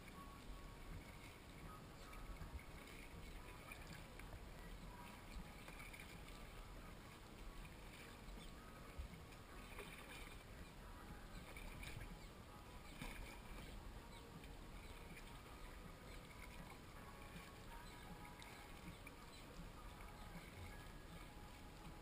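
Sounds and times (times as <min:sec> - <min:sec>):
low background hiss: 0:00.0 - 0:22.0
paddle dipping and dripping: 0:00.0 - 0:22.0.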